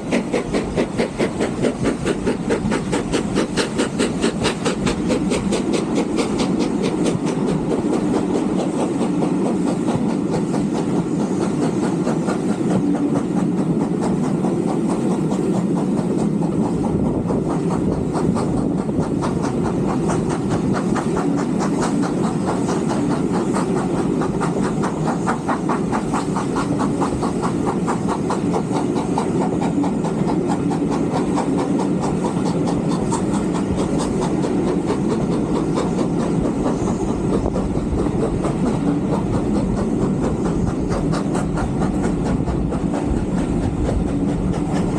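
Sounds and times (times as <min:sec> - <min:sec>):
steam train wheels rumbling on track: 0:00.0 - 0:44.9.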